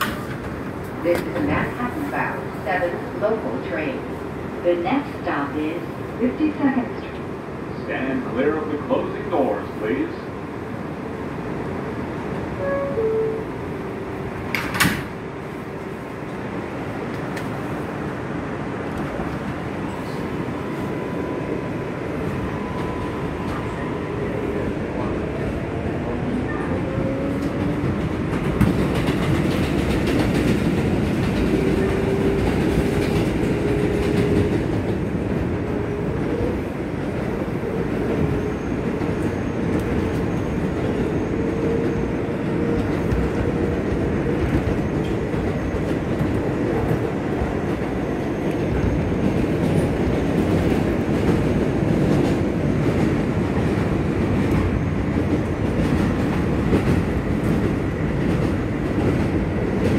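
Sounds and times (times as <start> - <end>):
train wheel and rail noise: 0.0 - 59.9.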